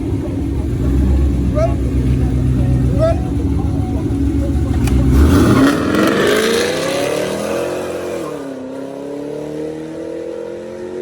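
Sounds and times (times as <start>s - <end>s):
vehicle engine accelerating: 0.0s - 11.0s.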